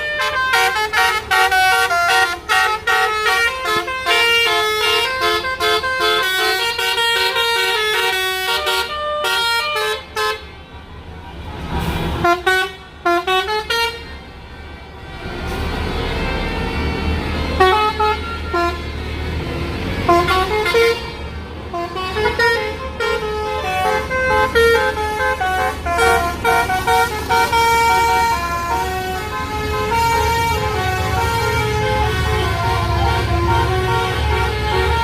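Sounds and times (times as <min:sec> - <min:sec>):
multi-tone bus horn tune: 0:00.0 - 0:11.1, 0:11.8 - 0:35.0.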